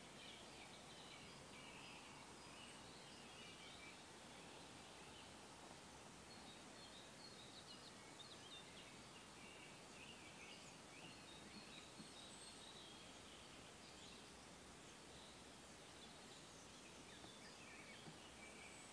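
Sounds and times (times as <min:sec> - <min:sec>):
songbirds chirping: 0:00.0 - 0:18.9
steady background hiss: 0:00.0 - 0:18.9.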